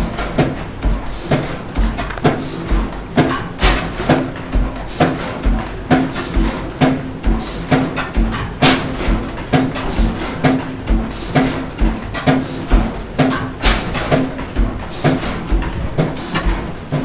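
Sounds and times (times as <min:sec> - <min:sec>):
stationary engine thudding slowly: 0:00.0 - 0:17.0.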